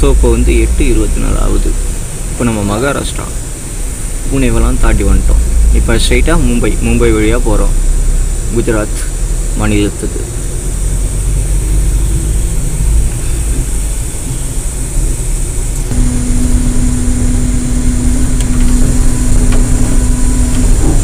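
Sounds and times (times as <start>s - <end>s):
bus engine and road rumble: 0.0s - 21.0s
steady droning tone: 0.0s - 21.0s.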